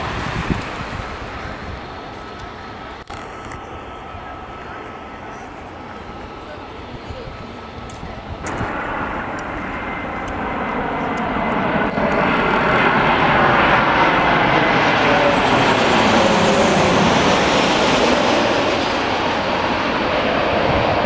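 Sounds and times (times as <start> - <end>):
jet aircraft landing: 0.0 - 21.0.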